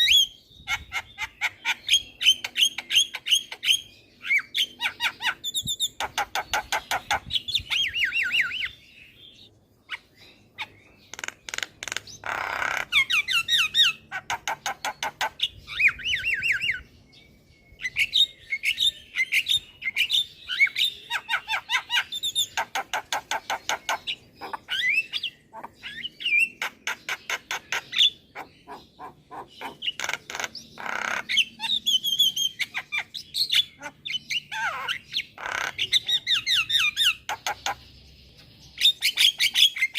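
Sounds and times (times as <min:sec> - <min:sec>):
bird chattering and squawking: 0:00.0 - 0:16.8, 0:17.8 - 0:39.9.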